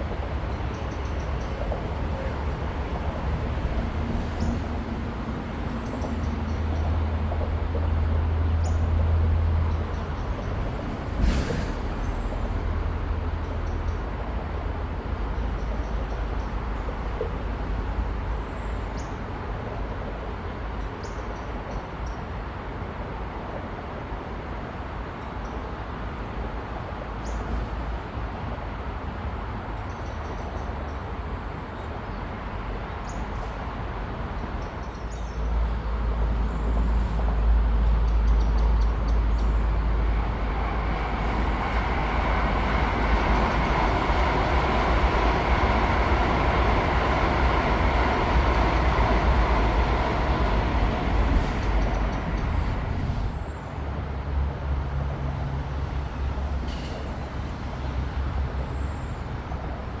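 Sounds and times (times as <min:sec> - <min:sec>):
high-speed train passing: 0:00.0 - 1:00.0.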